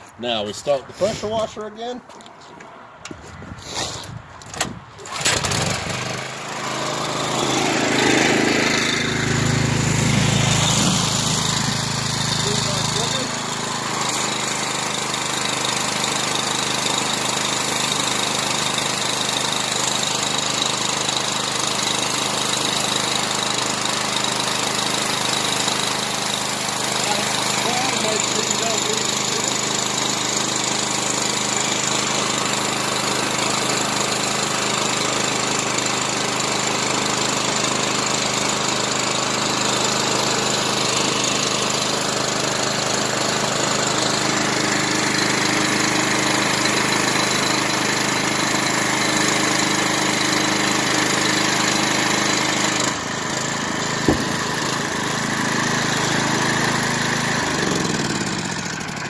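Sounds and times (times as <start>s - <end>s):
pressure washer engine running: 5.0s - 59.0s.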